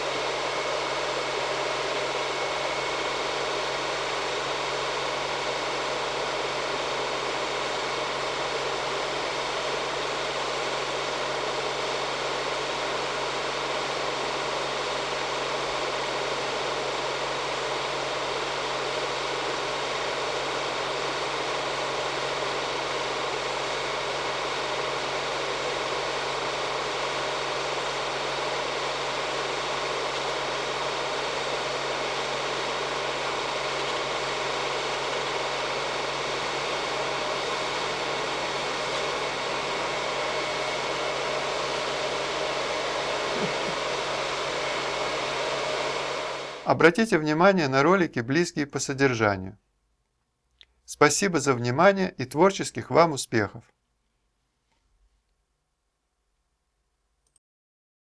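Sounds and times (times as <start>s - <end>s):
heat gun fan rushing air: 0.0s - 47.6s.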